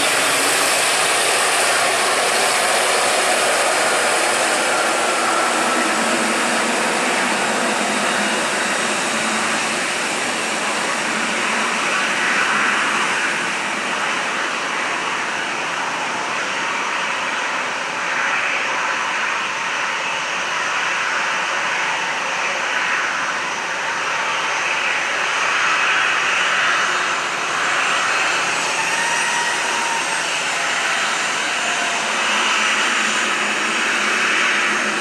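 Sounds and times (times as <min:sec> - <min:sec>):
jet engines running: 0:00.0 - 0:35.0.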